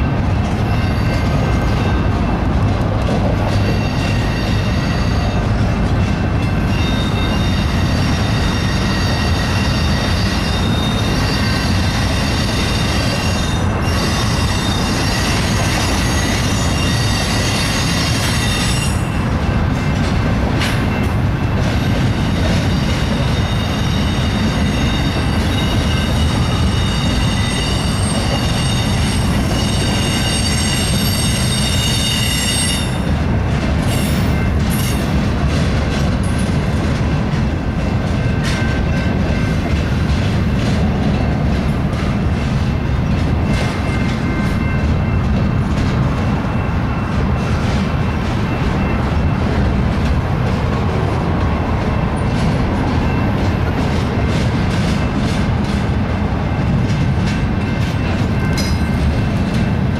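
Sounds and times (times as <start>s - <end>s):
freight train rumbling on rails: 0.0s - 59.9s
train wheels squealing: 0.6s - 2.4s, 3.4s - 20.0s, 20.6s - 33.2s, 33.8s - 35.2s, 38.0s - 50.4s, 51.1s - 59.9s.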